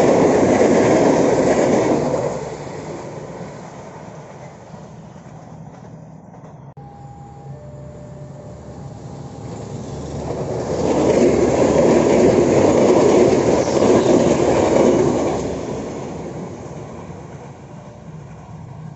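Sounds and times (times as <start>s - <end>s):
passenger train passing: 0.0s - 18.9s.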